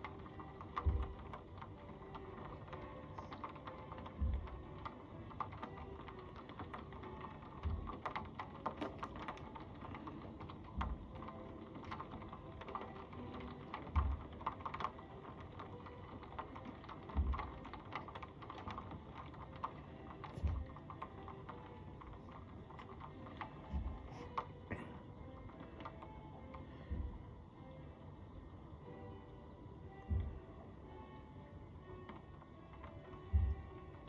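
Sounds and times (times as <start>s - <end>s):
rain ticking on window glass: 0.0s - 34.0s.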